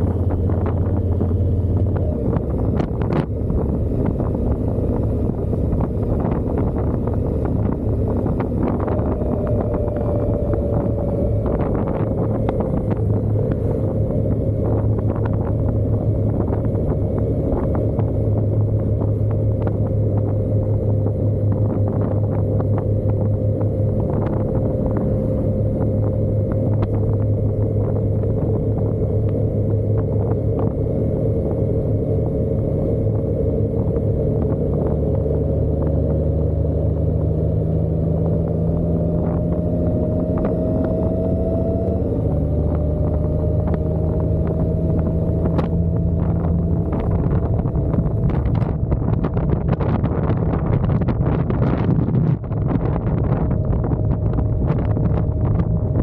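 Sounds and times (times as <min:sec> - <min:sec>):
motorcycle engine drone: 0:00.0 - 0:56.0
wind buffeting microphone: 0:00.0 - 0:56.0.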